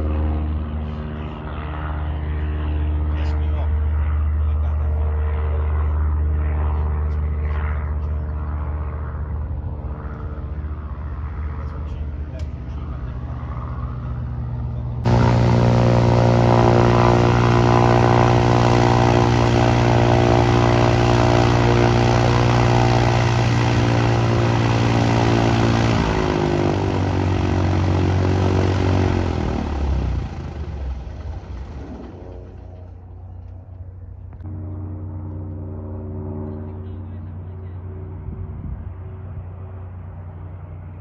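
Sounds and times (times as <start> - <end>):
propeller airplane engine: 0.0 - 41.0.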